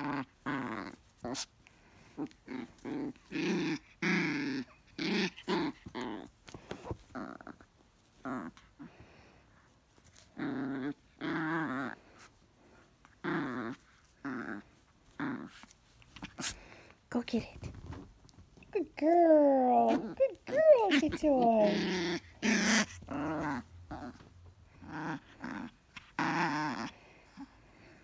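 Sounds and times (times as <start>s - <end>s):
small dog play-growling: 0.0s - 17.0s, 17.6s - 19.0s, 19.6s - 28.0s.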